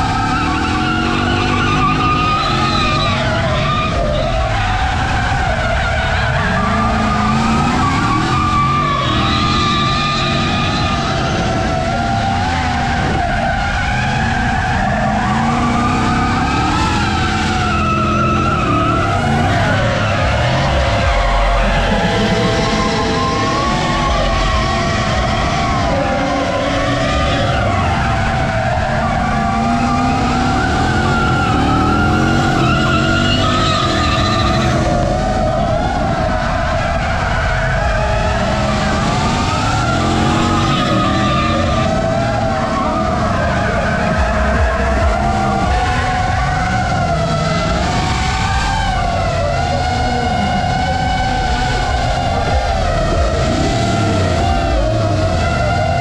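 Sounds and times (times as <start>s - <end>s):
car engine revving hard: 0.0s - 56.0s
drone motors whining: 0.0s - 56.0s
tyres skidding: 0.0s - 56.0s.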